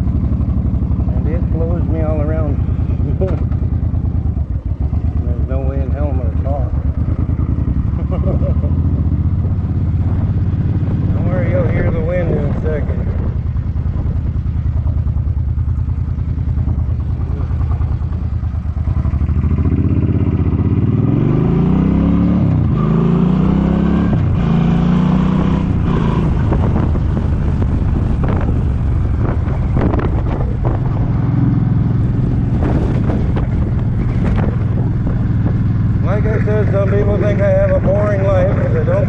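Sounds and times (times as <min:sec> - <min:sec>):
wind buffeting microphone: 0:00.0 - 0:21.2, 0:23.6 - 0:39.0
motorcycle engine accelerating: 0:00.0 - 0:39.0.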